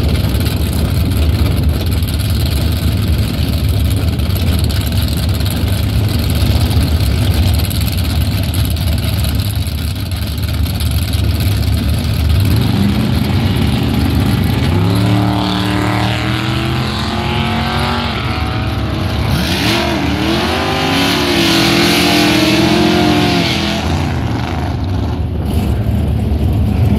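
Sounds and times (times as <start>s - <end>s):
drag car engine full throttle: 0.0s - 26.9s.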